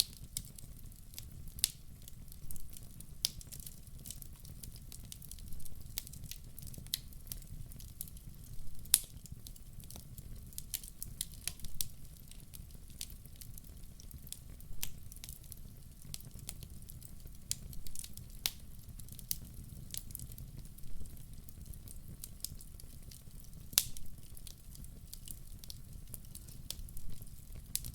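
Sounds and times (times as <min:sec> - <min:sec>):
wood fire crackling and popping: 0:00.0 - 0:27.9.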